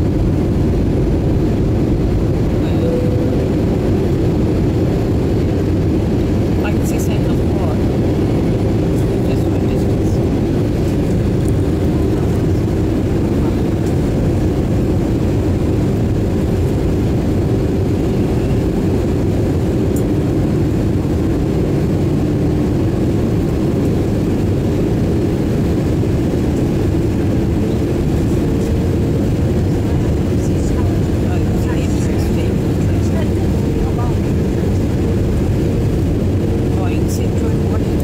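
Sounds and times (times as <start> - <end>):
jet engine and airflow rush: 0.0 - 38.0
steady cabin hum: 0.0 - 38.0.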